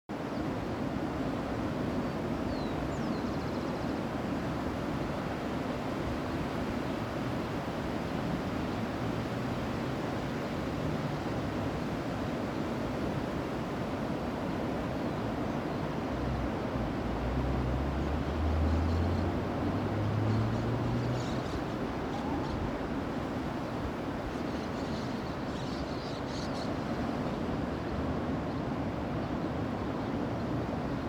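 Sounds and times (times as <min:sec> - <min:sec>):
wind: 0:00.1 - 0:31.0
sea waves: 0:04.1 - 0:31.0.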